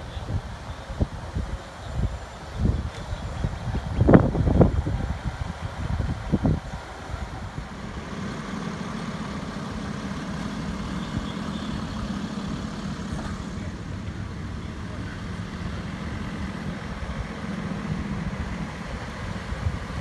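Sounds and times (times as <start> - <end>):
road traffic: 0.0 - 20.0
truck engine idling: 0.0 - 20.0.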